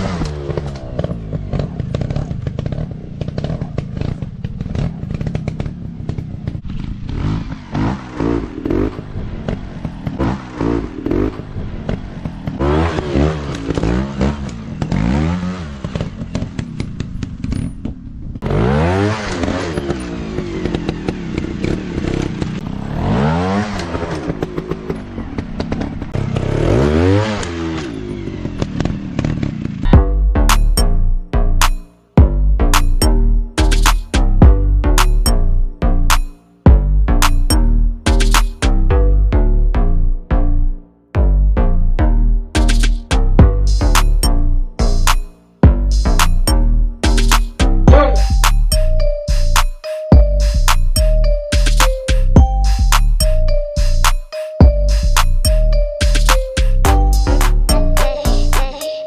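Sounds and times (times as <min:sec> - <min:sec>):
dirt bike engine revving: 0:00.0 - 0:31.9, 0:42.6 - 0:58.8.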